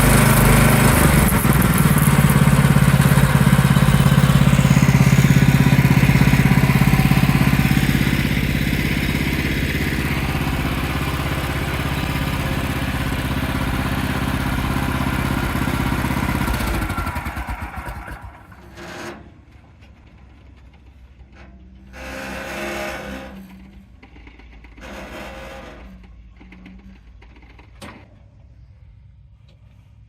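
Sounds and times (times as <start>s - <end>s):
small gas engine running: 0.0s - 30.0s.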